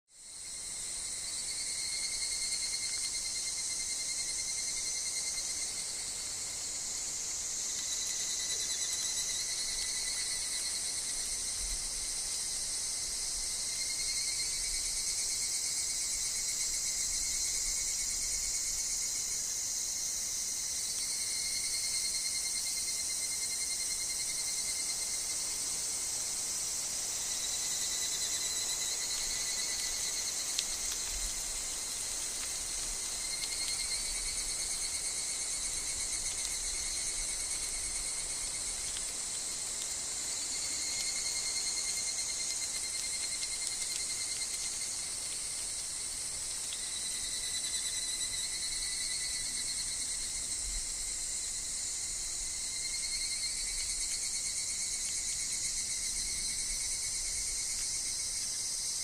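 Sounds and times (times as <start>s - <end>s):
cicadas and insects chorus: 0.1s - 59.0s.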